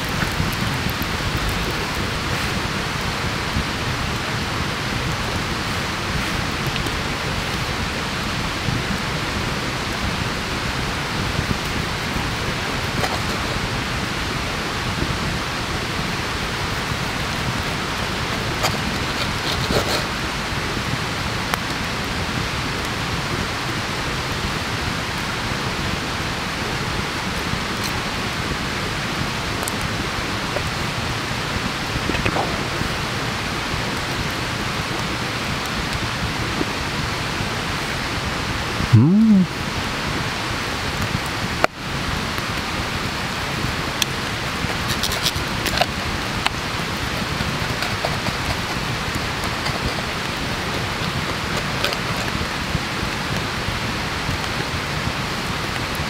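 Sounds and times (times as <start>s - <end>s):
rushing hiss of surroundings: 0.0s - 56.0s.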